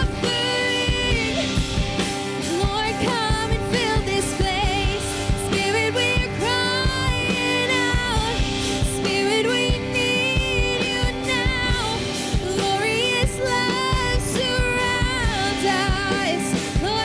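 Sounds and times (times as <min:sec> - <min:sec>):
lead singer singing: 0:00.0 - 0:17.0
worship band playing: 0:00.0 - 0:17.0.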